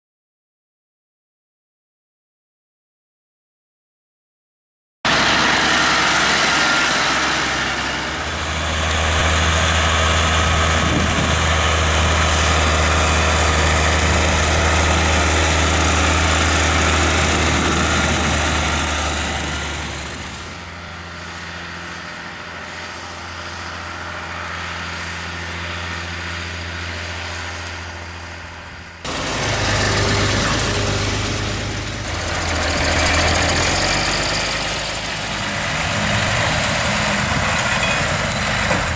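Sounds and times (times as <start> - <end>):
tractor diesel engine running: 5.1 - 38.9.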